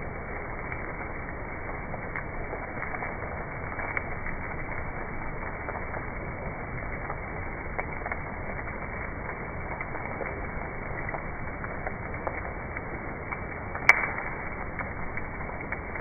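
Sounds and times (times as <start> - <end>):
soft crackles and clicks: 0.0 - 16.0
steady hissing ambience: 0.0 - 16.0.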